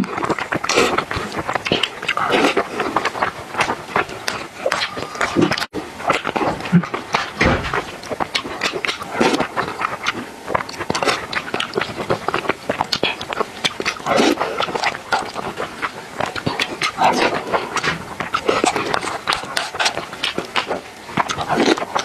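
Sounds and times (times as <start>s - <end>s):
wet chewing and lip-smacking: 0.0s - 22.0s.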